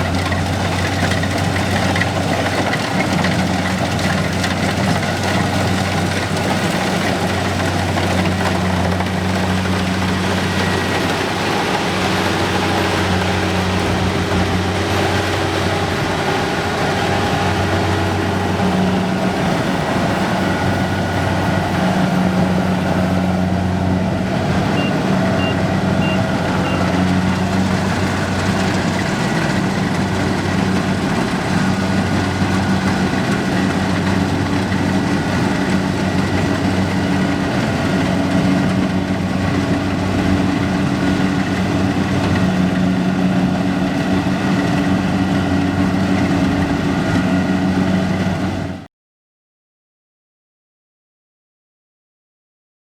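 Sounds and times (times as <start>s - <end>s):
heavy engine droning: 0.0s - 48.9s.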